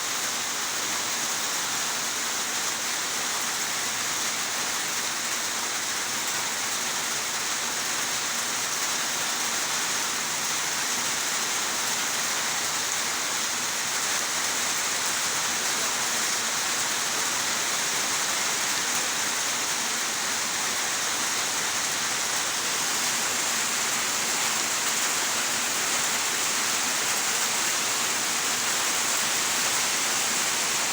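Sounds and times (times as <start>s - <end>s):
steady rain hiss: 0.0s - 30.9s.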